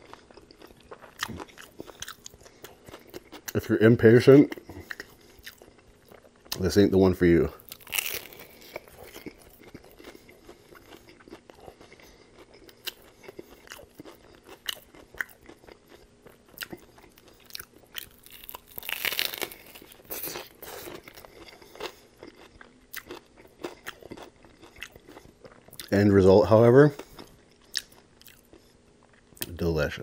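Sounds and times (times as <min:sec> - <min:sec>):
crunchy fried chicken chewing: 0:00.0 - 0:29.6.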